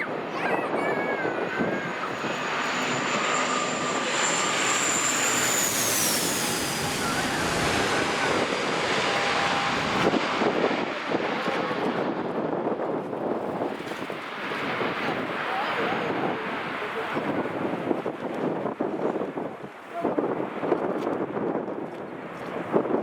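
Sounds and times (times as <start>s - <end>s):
airliner engine whine: 0.0s - 19.5s
wind on microphone: 0.0s - 23.0s.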